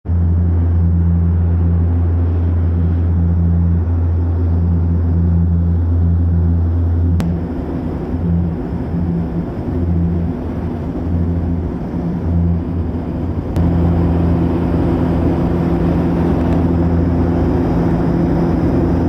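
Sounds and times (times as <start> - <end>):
aeroplane engine drone in cabin: 0.0 - 19.0.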